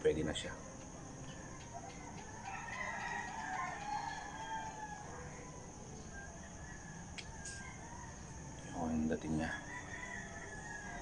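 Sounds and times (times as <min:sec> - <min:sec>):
rooster crowing: 0:01.2 - 0:11.0.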